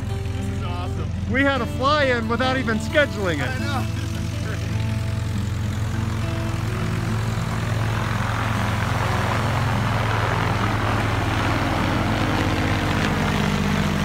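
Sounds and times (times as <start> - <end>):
propeller plane flying overhead: 0.0 - 14.0.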